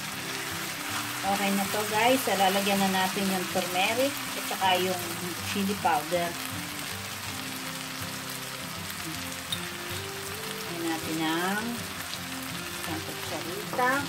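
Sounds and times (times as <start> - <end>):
background music: 0.0 - 14.0
chicken frying in oil: 0.0 - 14.0.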